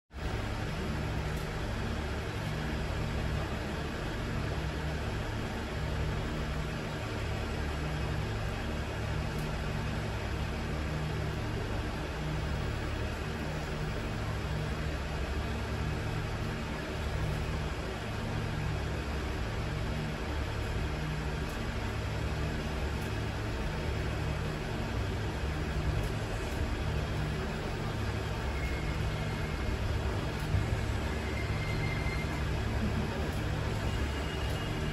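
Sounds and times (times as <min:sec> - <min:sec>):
low hum: 0:00.2 - 0:34.9.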